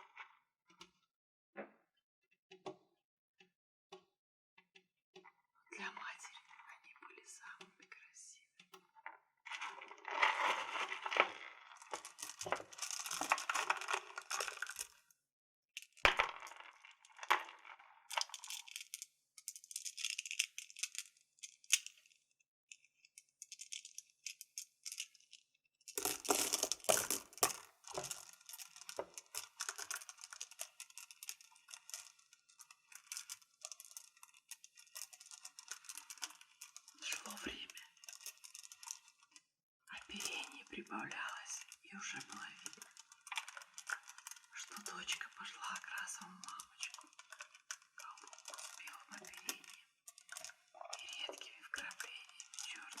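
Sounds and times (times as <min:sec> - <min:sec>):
crystals clinking and rattling: 0:09.5 - 0:15.1, 0:15.8 - 0:53.0.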